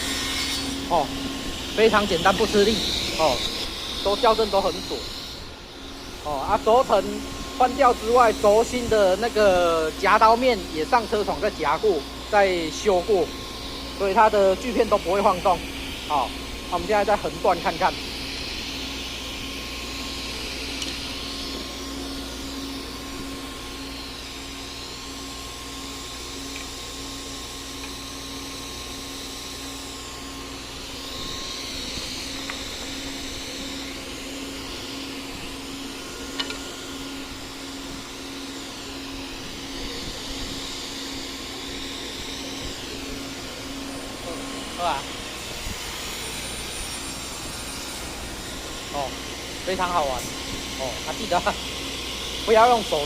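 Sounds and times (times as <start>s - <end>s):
table saw running: 0.0s - 53.0s.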